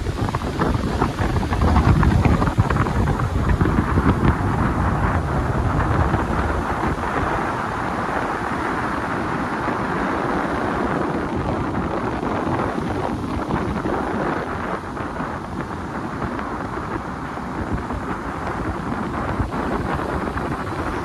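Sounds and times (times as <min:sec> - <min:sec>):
low rumble: 0:00.0 - 0:21.0
surf washing over rocks: 0:00.0 - 0:21.0
wind buffeting microphone: 0:00.0 - 0:21.0.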